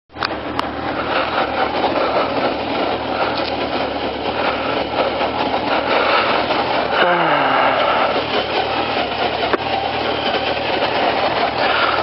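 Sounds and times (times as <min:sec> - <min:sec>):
small vehicle engine running: 0:00.1 - 0:12.0.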